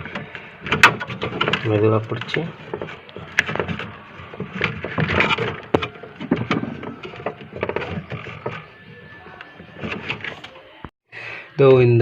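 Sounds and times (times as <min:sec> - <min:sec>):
plastic clicks and scraping: 0:00.0 - 0:10.6.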